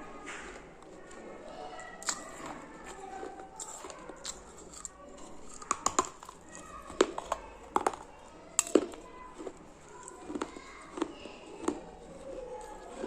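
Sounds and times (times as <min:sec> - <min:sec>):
crunching chewing: 0:00.0 - 0:13.0.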